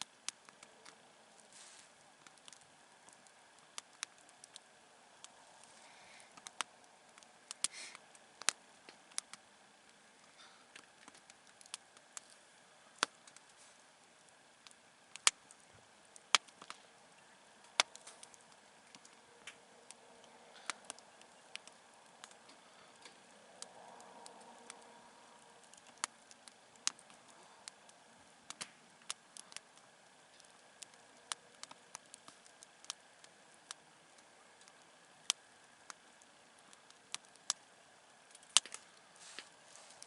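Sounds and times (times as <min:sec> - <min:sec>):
campfire crackling: 0:00.0 - 0:40.0
faint hiss: 0:00.0 - 0:40.0.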